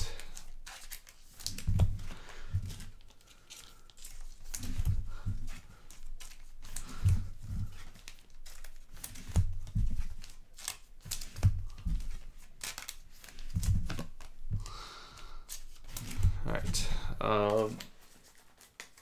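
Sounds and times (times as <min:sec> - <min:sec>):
plastic sleeves crinkling: 0:00.0 - 0:19.0.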